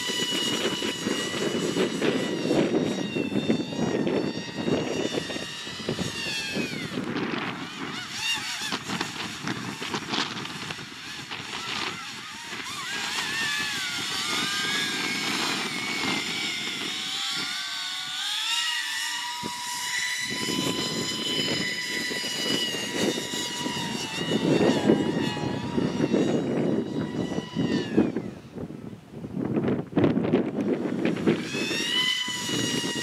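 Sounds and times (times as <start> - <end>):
electric ducted fan whine: 0.0 - 33.0
wind rumbling on microphone: 0.0 - 33.0.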